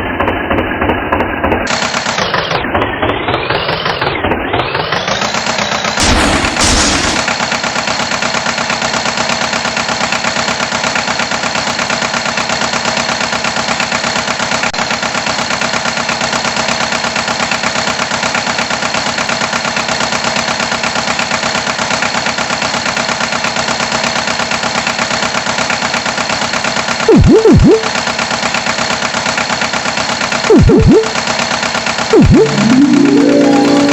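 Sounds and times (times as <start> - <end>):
tractor engine chugging: 0.0 - 33.6.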